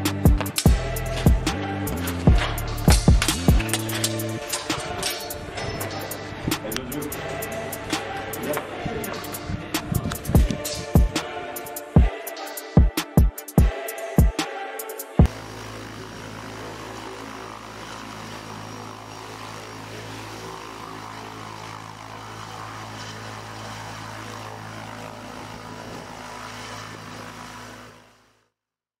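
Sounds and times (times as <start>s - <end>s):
helicopter turbine and rotor: 0.0s - 28.4s.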